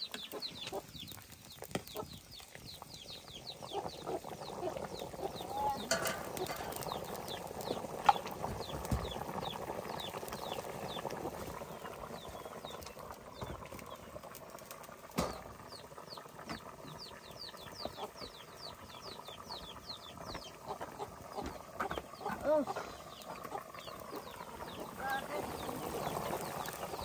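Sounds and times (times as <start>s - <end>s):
bird chirping: 0.0s - 11.1s, 11.7s - 14.2s, 15.2s - 27.0s.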